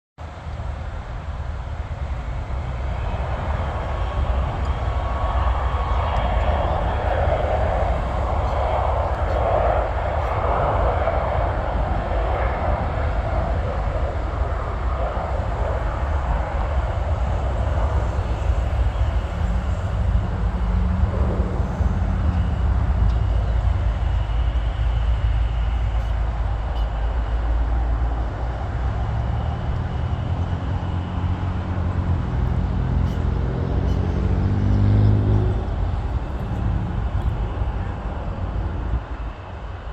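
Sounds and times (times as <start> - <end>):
jet engine roar: 0.2 - 39.9
rising drone: 0.3 - 39.9.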